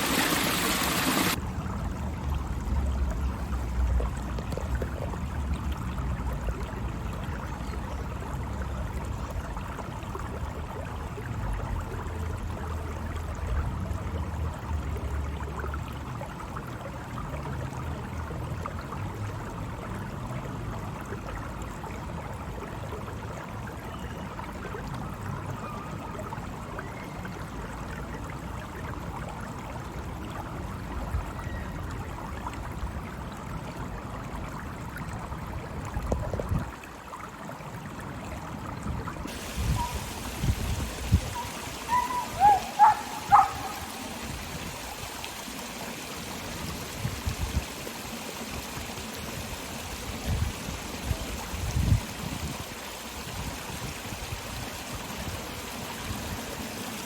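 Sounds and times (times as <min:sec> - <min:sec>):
running water rushing: 0:00.0 - 0:31.0, 0:31.8 - 0:57.0.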